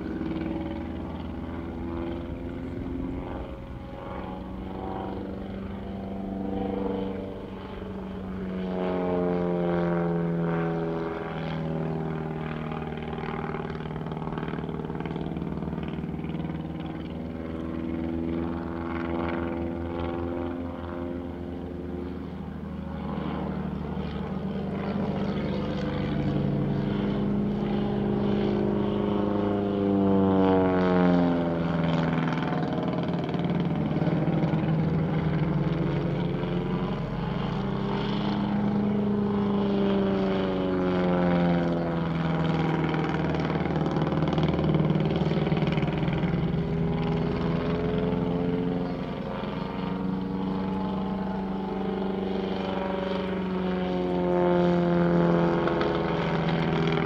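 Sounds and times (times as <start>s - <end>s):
biplane engines flying overhead: 0.0s - 57.0s.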